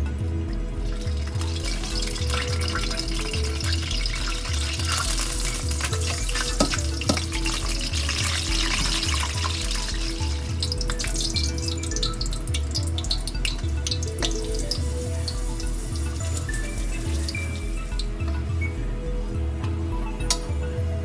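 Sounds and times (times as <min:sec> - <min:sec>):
background music with bass beat: 0:00.0 - 0:21.0
crackling sizzle of frying: 0:00.5 - 0:18.4.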